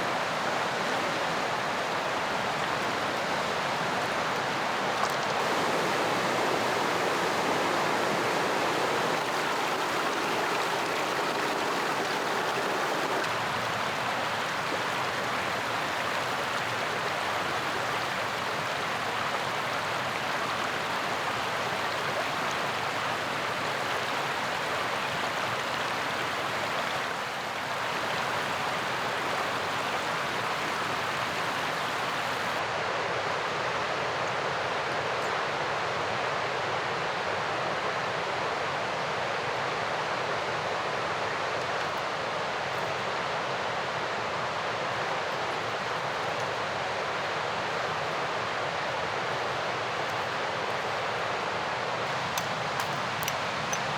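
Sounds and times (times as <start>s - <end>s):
river rushing: 0.0s - 34.1s, 35.7s - 53.9s.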